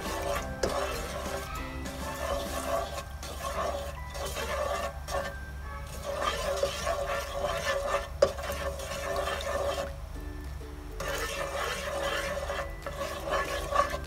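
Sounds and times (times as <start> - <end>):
spoon swishing and scraping in pan: 0.0 - 10.1, 11.0 - 14.0.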